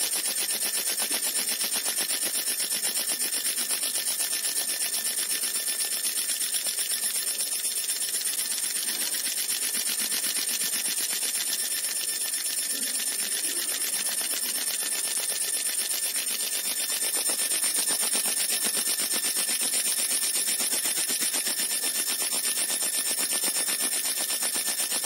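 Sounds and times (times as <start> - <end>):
laser machine pulsing whine: 0.0 - 25.0.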